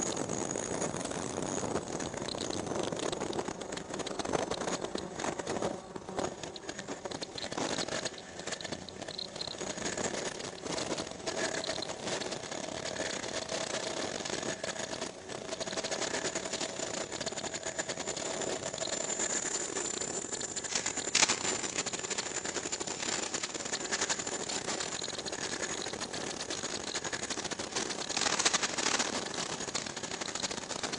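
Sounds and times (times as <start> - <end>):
machine rattling clatter: 0.0 - 30.9.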